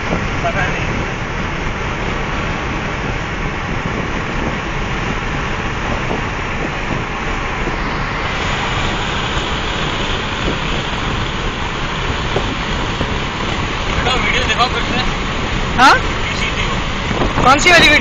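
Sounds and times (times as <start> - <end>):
tyre and wind noise in car: 0.0 - 18.0.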